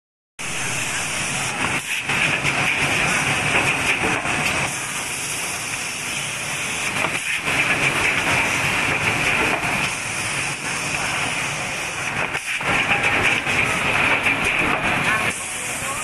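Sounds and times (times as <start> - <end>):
machinery hiss and rumble: 0.4 - 16.0.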